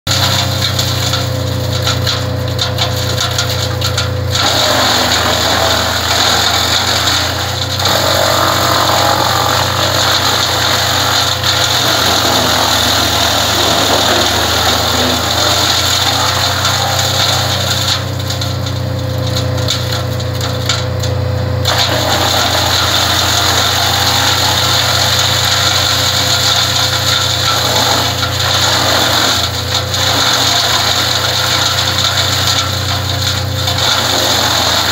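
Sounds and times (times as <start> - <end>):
wood chipper chewing branches: 0.0 - 34.9.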